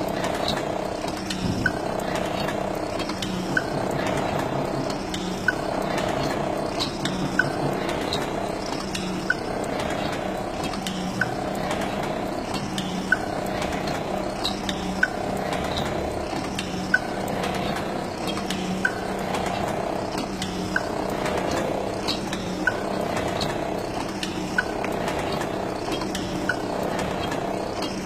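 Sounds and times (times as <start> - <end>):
machine humming: 0.0 - 28.0.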